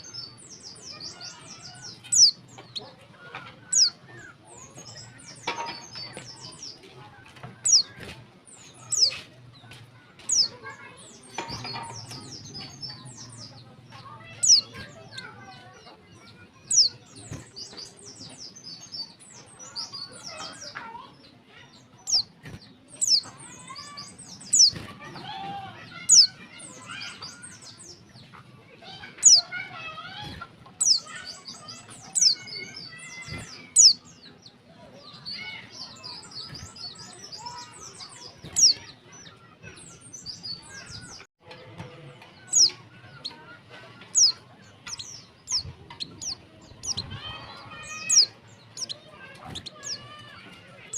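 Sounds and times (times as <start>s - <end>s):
soft bird twittering: 0.0s - 3.0s, 3.6s - 41.3s, 42.3s - 50.9s.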